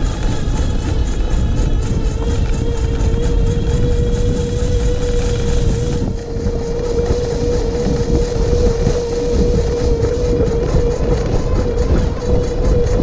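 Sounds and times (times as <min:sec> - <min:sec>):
electric hub motor whine: 0:00.0 - 0:13.0
wind rumble on microphone: 0:00.0 - 0:13.0.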